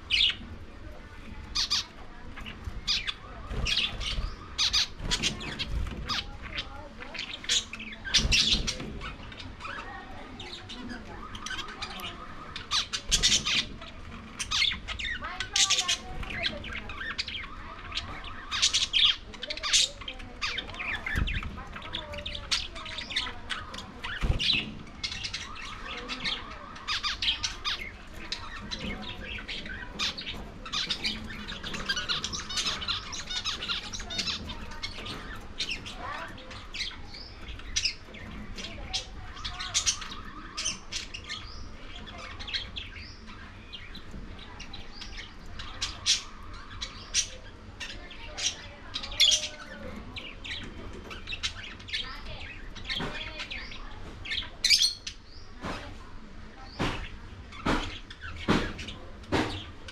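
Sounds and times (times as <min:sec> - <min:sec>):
parrots chirping and squawking: 0:00.0 - 0:59.9.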